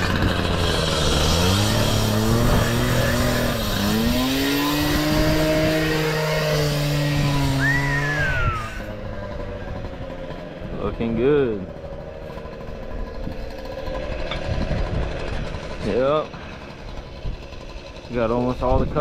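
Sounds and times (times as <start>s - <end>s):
small gas engine revving: 0.0s - 19.0s.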